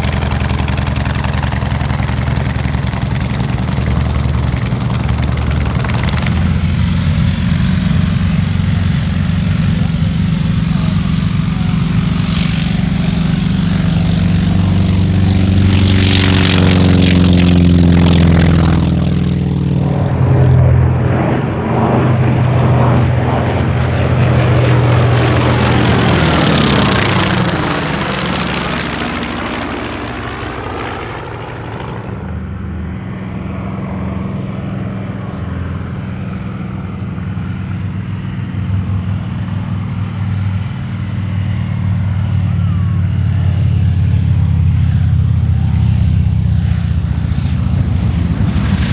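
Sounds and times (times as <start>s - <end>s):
propeller aircraft engine: 0.0s - 48.9s.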